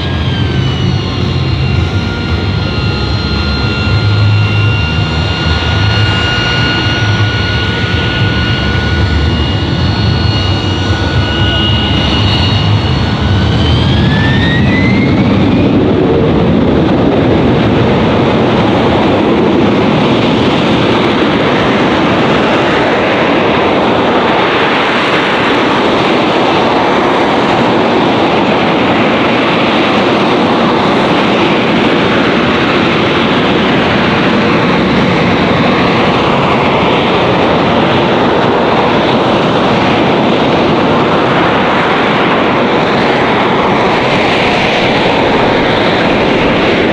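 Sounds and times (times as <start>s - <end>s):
jet engine roar with whine: 0.0s - 46.9s.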